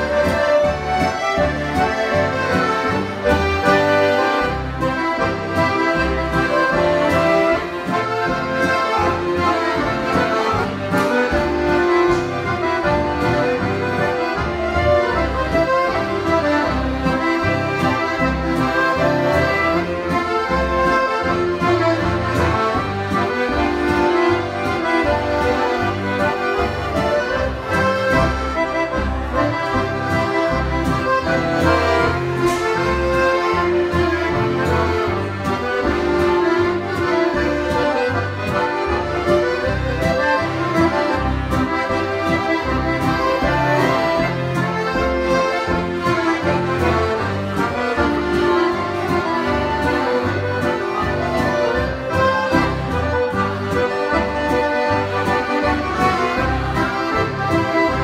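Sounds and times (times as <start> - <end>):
button accordions playing melody: 0.0 - 58.0
double bass: 0.0 - 58.0.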